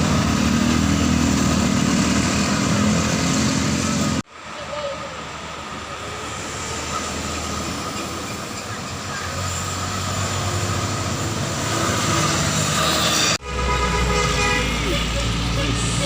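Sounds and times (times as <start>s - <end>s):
roadside traffic noise: 0.0s - 16.0s.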